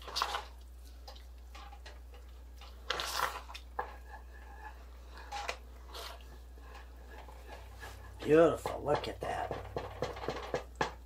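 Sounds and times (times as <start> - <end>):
spatula stirring thick sauce: 0.0 - 11.0.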